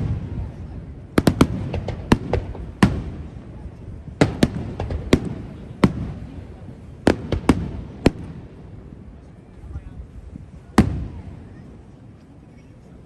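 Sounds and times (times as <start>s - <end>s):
fireworks bursting: 0.0s - 9.7s, 10.4s - 12.4s.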